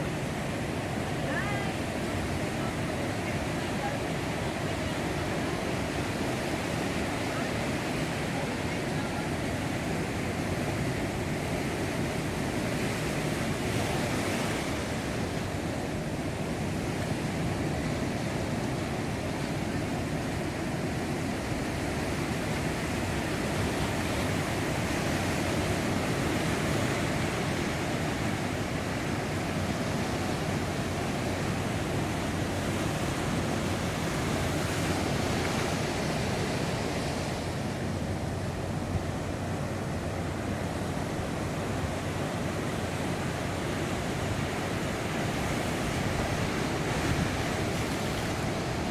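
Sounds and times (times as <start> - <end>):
surf breaking on a beach: 0.0 - 48.9.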